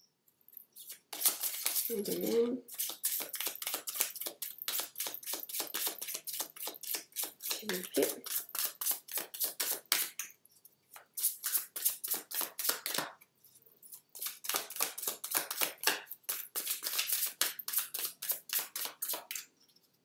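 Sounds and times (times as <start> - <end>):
cards being shuffled: 0.8 - 10.2, 11.0 - 13.1, 14.1 - 19.5.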